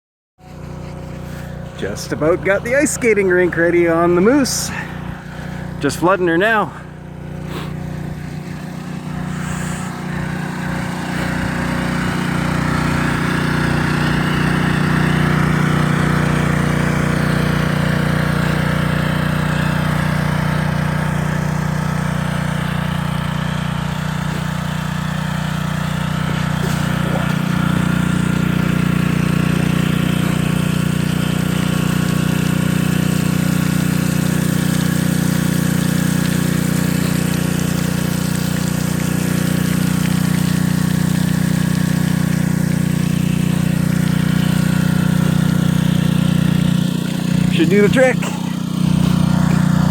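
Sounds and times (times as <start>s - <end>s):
small water pump engine running: 0.4s - 49.9s.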